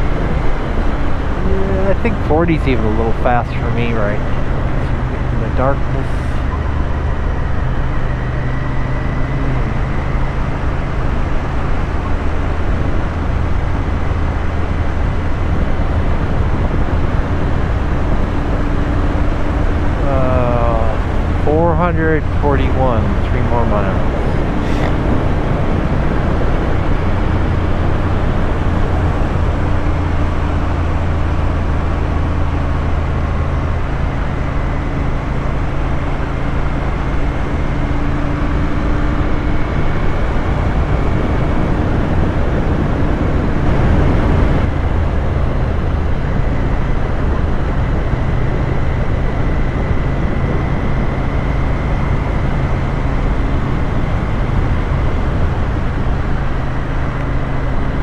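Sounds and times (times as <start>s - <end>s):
motorcycle engine cruising: 0.0s - 58.0s
wind and road rush: 0.0s - 58.0s.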